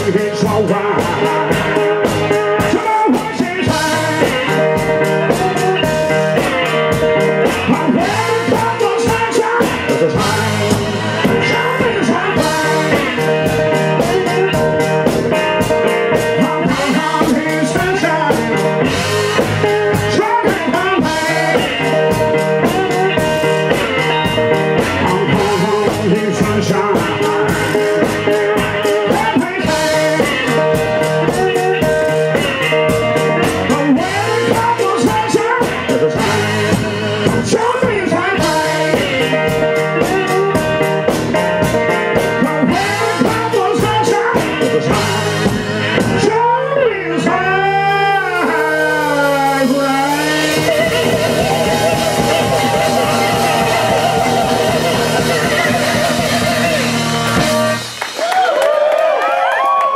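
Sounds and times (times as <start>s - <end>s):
person singing: 0.0s - 57.8s
blues-rock band playing: 0.0s - 59.9s.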